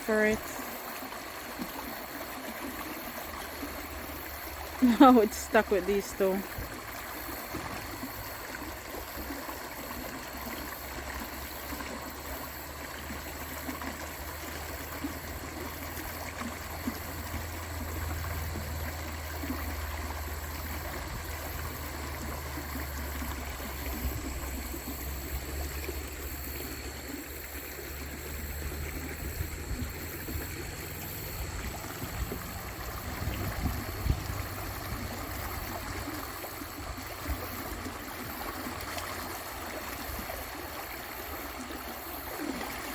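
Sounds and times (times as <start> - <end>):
creek water rushing over rocks: 0.0 - 42.9.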